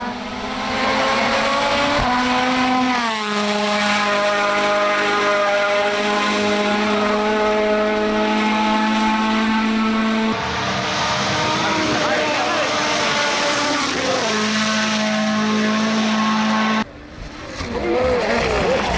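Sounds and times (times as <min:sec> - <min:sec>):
rally car engine at high revs: 0:00.0 - 0:18.9.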